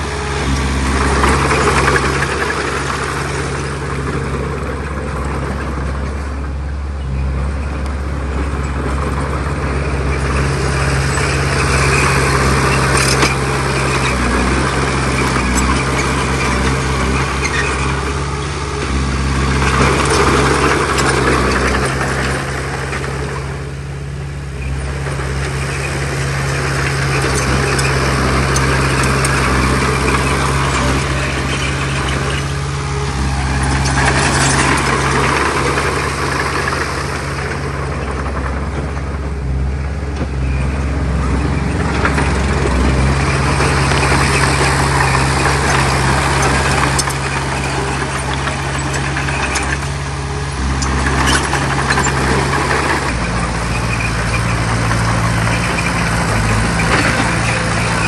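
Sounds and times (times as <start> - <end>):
heavy machinery diesel engine: 0.0 - 58.0
rattling noise: 7.0 - 58.0.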